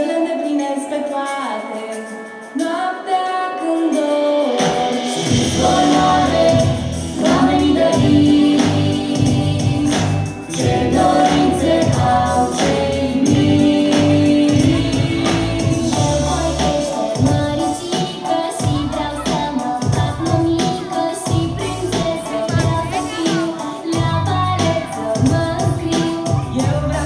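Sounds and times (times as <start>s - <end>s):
children's pop song with singing: 0.0s - 27.0s.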